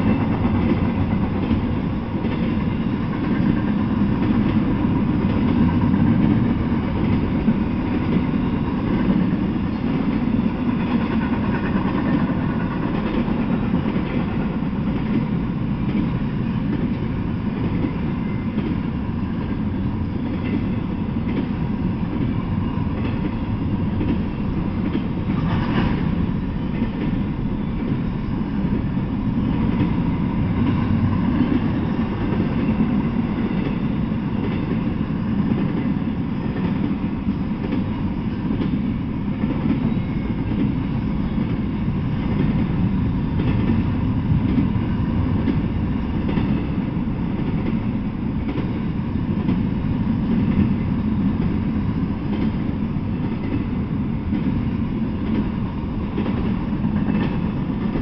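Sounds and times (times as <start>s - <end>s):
train wheel clicks: 0.0s - 19.6s, 20.2s - 27.2s, 28.7s - 46.8s, 47.4s - 47.8s, 48.4s - 50.8s, 52.2s - 58.0s
freight train rumbling past: 0.0s - 58.0s.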